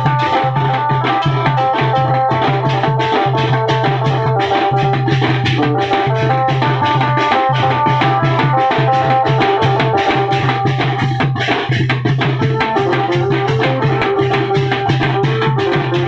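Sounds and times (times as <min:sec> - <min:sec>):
drums and hand cymbals: 0:00.0 - 0:16.0
electronic keyboard melody: 0:00.0 - 0:16.0
steady bass: 0:00.0 - 0:16.0.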